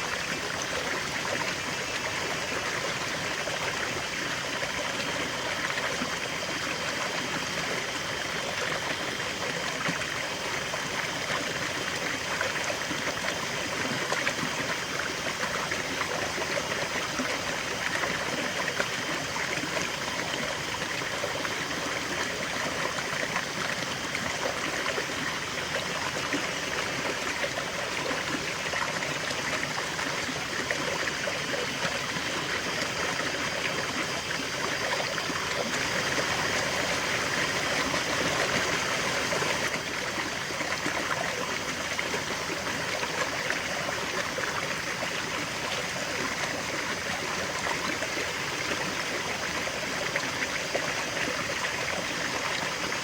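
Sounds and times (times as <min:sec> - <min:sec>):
river water over rocks: 0:00.0 - 0:53.0.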